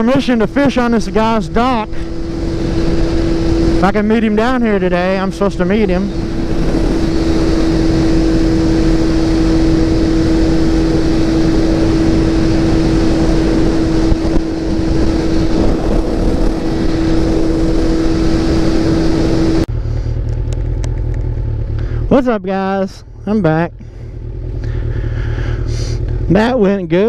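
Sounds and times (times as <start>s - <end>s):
low hum: 0.0s - 27.0s
motorcycle engine cruising: 0.0s - 27.0s
rush of riding wind: 0.0s - 27.0s.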